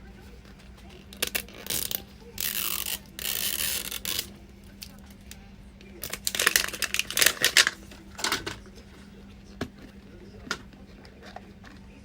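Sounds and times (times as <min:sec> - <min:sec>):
plastic packaging crinkling and tearing: 0:00.2 - 0:11.9.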